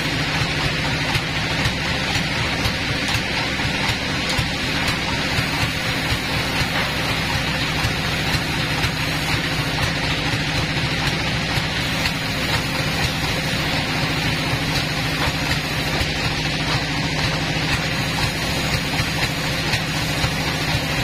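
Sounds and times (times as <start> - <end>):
sawmill machinery hum: 0.0 - 21.0.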